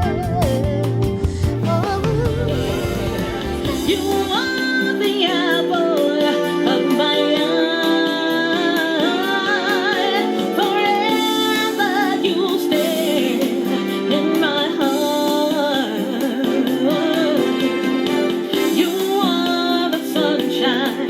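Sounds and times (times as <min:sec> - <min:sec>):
pop-soul backing track: 0:00.0 - 0:21.0
woman singing with vibrato: 0:00.0 - 0:21.0.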